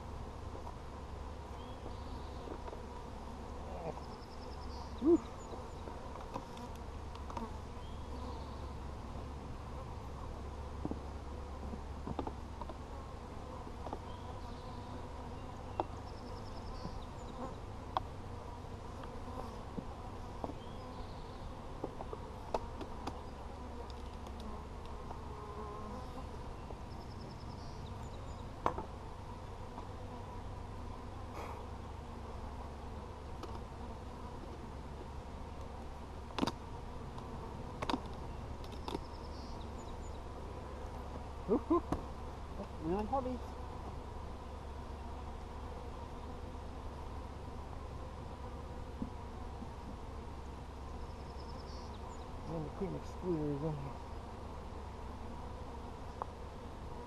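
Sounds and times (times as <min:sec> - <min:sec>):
bees buzzing: 0:00.0 - 0:57.0
bee buzzing past microphone: 0:01.6 - 0:12.0, 0:12.7 - 0:57.0.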